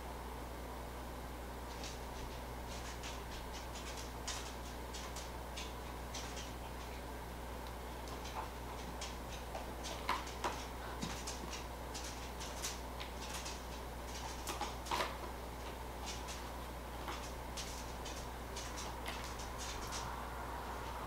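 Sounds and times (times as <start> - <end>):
low steady hum: 0.0 - 21.0
cat paws tapping on cardboard: 1.7 - 7.0, 8.0 - 20.1.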